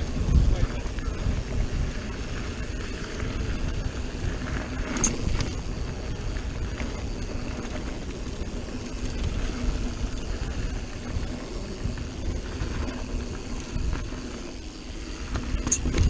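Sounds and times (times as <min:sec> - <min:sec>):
bike clicks and rattles: 0:00.0 - 0:16.0
wind buffeting microphone: 0:00.0 - 0:16.0.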